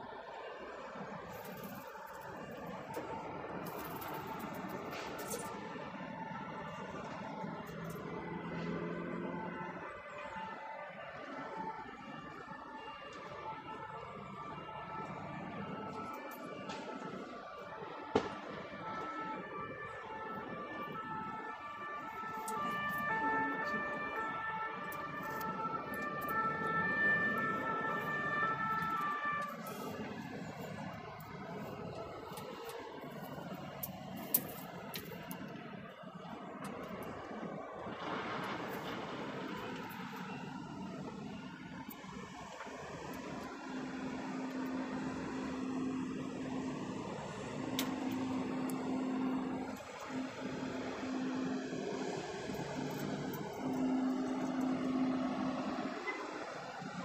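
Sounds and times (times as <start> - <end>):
city traffic hum: 0.0 - 57.0
emergency vehicle sirens: 0.0 - 57.0.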